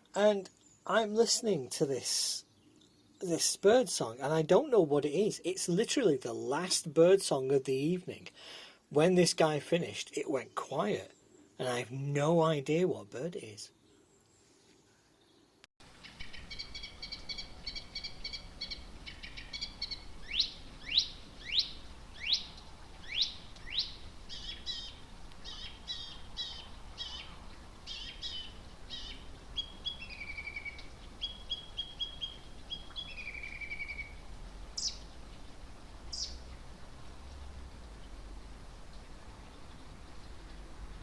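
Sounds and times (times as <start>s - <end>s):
songbird singing: 0.0s - 6.1s, 10.1s - 41.0s.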